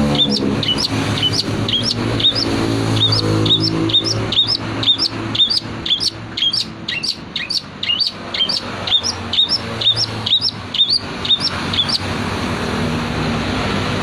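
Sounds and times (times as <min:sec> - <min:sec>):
bird singing sharp chirps: 0:00.0 - 0:12.0.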